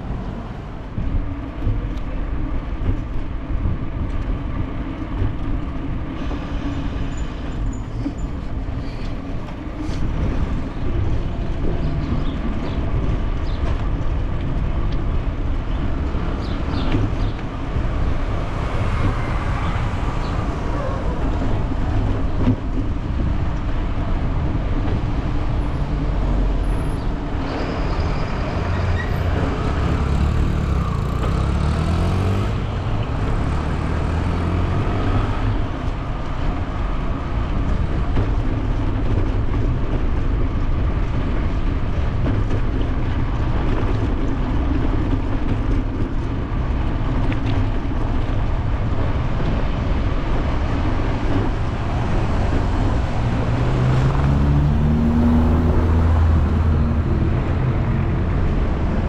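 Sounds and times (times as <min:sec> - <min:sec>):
road rumble: 0:00.0 - 0:59.0
wind buffeting: 0:00.0 - 0:59.0.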